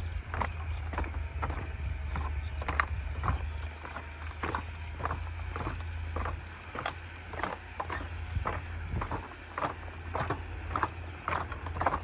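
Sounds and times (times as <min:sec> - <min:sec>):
footsteps on wooden boardwalk: 0:00.0 - 0:12.0.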